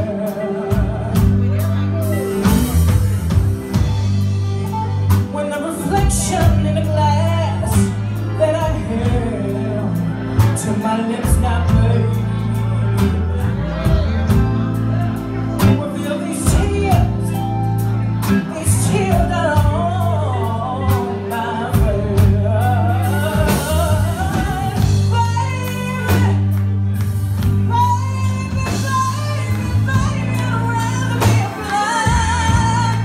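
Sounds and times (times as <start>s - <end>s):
woman singing into microphone: 0.0s - 2.2s, 5.1s - 13.9s, 15.6s - 26.6s, 27.4s - 33.0s
live blues band playing: 0.0s - 33.0s.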